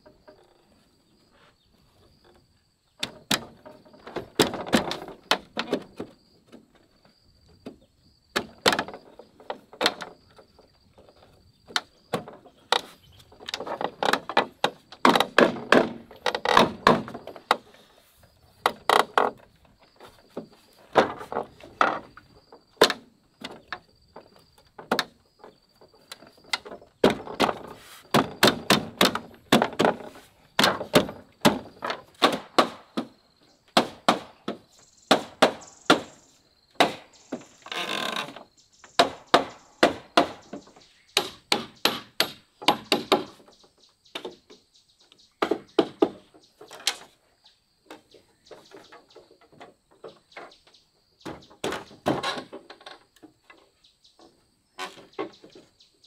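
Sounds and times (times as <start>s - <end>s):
bamboo poles knocking: 3.0s - 6.8s, 7.6s - 17.8s, 18.6s - 36.2s, 36.8s - 44.7s, 45.4s - 47.2s, 47.9s - 55.7s.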